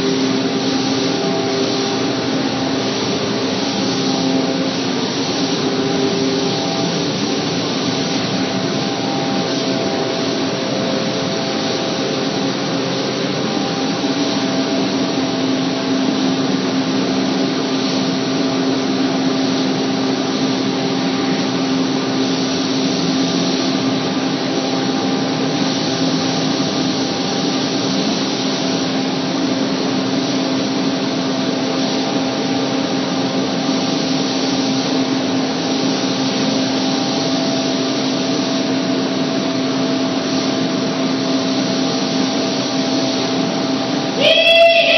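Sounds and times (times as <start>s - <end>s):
constant hiss of air: 0.0s - 44.9s.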